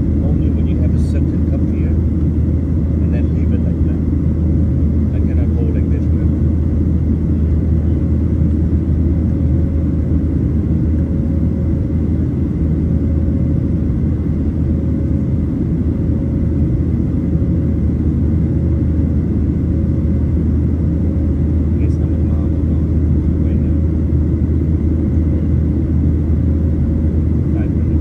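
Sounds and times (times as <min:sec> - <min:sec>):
airplane rumbling: 0:00.0 - 0:28.0
faint steady whine: 0:00.0 - 0:28.0.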